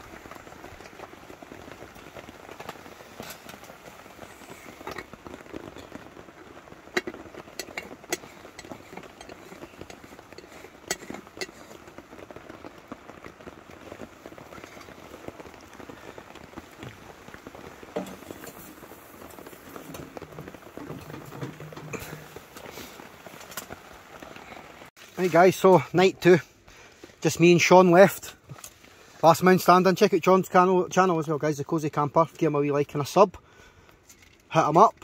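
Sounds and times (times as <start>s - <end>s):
rain falling on a tent: 0.0s - 35.0s.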